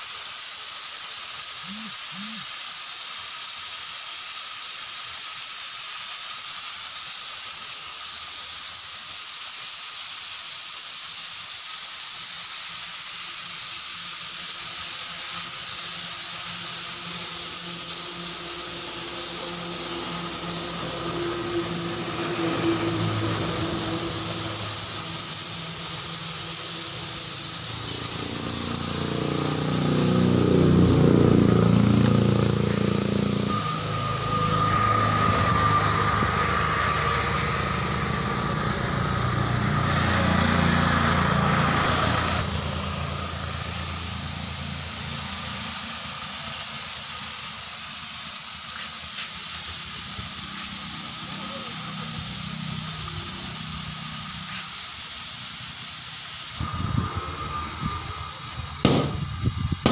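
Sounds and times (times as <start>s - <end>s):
compressed air hissing: 0.0s - 59.9s
engine: 0.0s - 59.9s.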